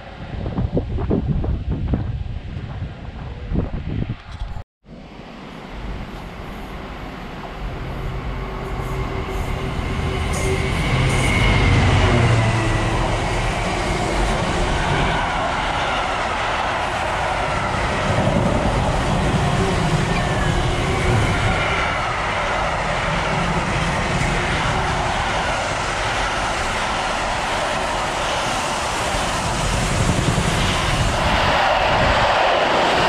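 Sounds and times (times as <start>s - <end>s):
train rumbling past: 4.9s - 33.0s.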